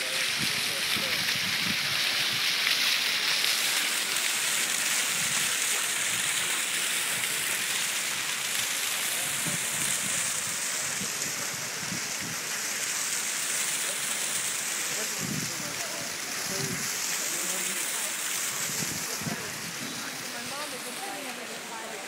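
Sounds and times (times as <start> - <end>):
fountain water splashing: 0.0 - 22.0.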